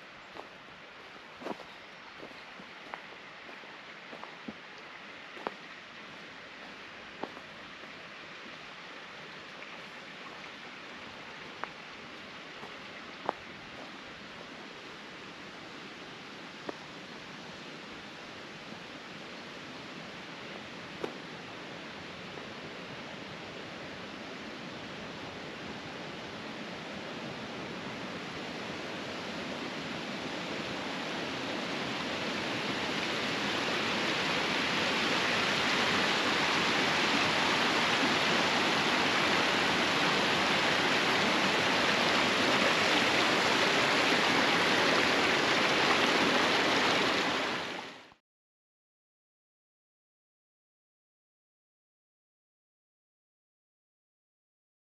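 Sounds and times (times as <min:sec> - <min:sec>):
rushing mountain water: 0:00.0 - 0:48.2.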